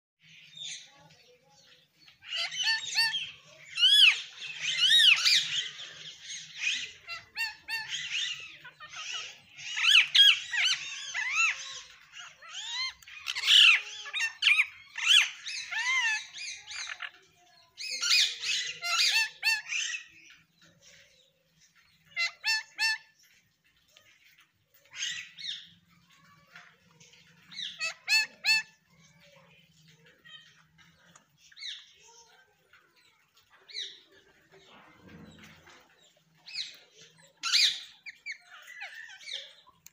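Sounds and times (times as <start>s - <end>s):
parakeets chattering and squawking: 0.2s - 39.9s.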